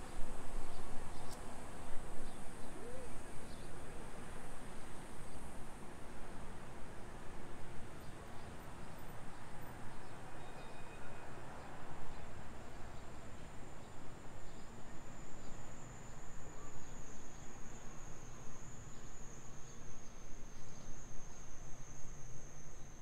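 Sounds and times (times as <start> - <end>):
low rumble of street noise: 0.0 - 23.0.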